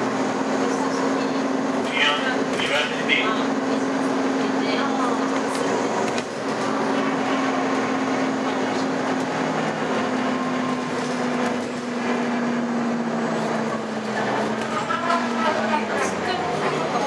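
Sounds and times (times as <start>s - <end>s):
bus interior running noise: 0.0s - 17.0s.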